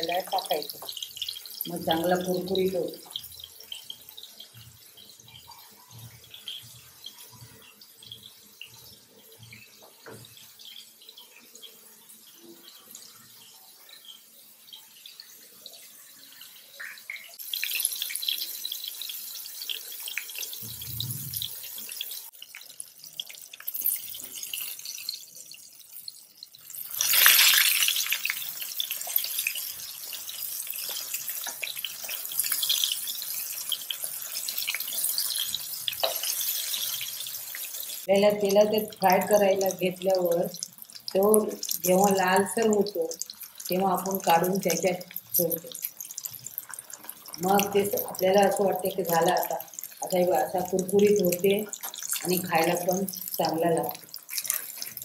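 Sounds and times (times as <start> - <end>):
fish frying in sizzling oil: 0.0 - 55.0.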